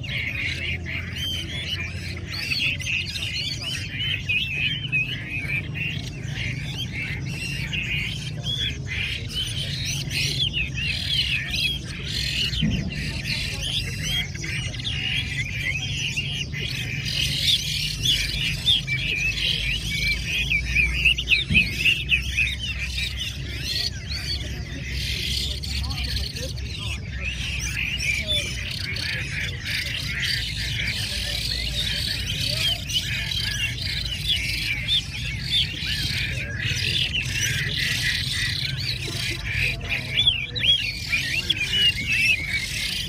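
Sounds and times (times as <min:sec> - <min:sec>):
chorus of birds whistling: 0:00.0 - 0:43.0.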